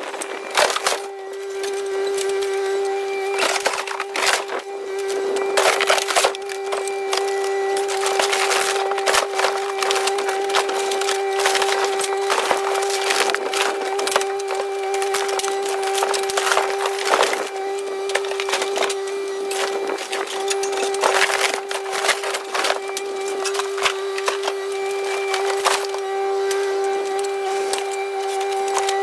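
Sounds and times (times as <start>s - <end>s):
boat hull cracking and splintering: 0.0s - 29.0s
excavator engine running: 0.0s - 29.0s.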